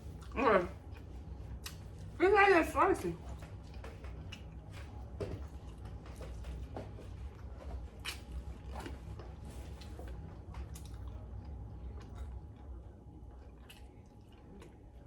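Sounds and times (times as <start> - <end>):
person chewing wet smacking: 0.0 - 2.2, 3.2 - 15.0
steady low hum: 0.0 - 15.0.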